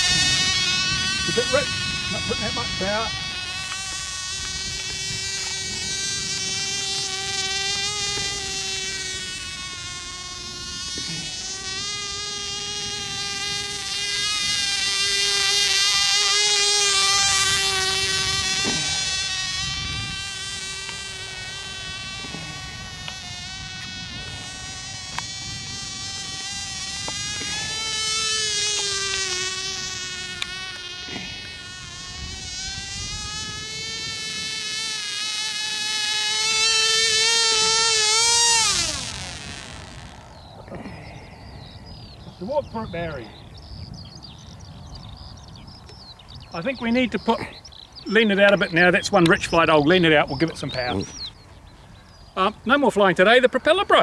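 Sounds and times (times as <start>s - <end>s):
model plane engine whine: 0.0s - 54.0s.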